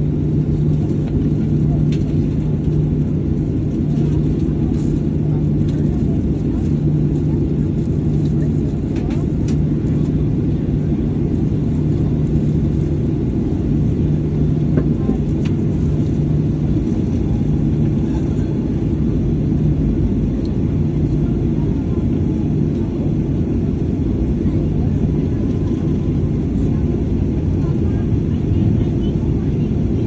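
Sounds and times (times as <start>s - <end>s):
airplane cabin rumble: 0.0s - 30.0s
wavering low hum: 0.0s - 30.0s.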